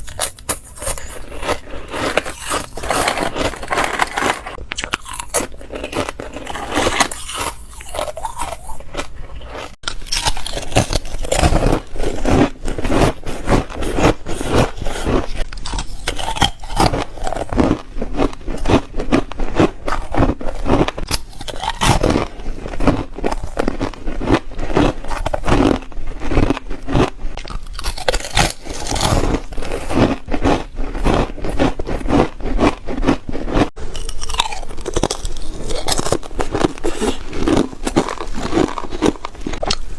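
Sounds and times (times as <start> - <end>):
crunching ice between teeth: 0.0 - 39.9.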